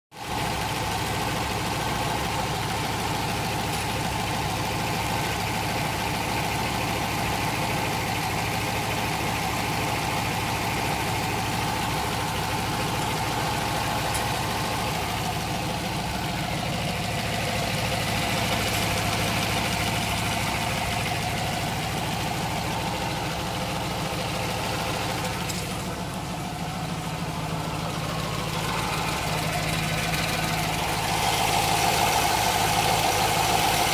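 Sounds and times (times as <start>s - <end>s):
engine idling with rapid knocking: 0.1s - 33.9s.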